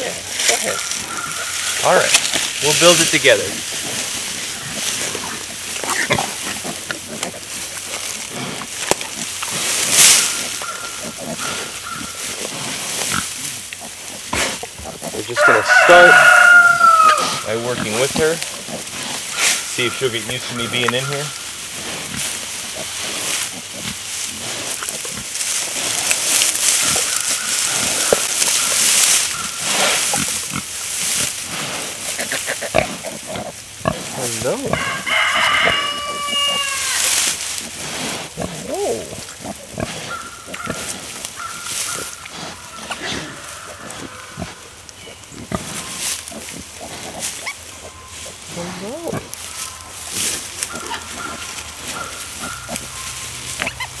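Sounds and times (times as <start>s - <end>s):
pig grunting: 0.0s - 34.8s, 35.4s - 44.7s, 45.4s - 54.0s
dry straw rustling and crackling: 0.0s - 54.0s.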